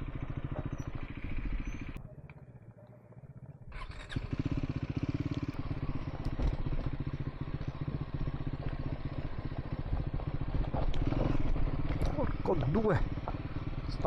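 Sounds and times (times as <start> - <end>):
single-cylinder engine running: 0.0 - 14.0.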